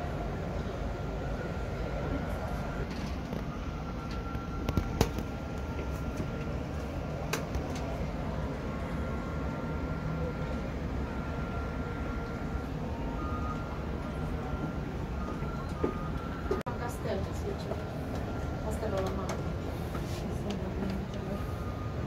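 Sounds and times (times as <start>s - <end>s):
faint steady whine: 0.0s - 22.0s
low hum of traffic: 0.0s - 22.0s.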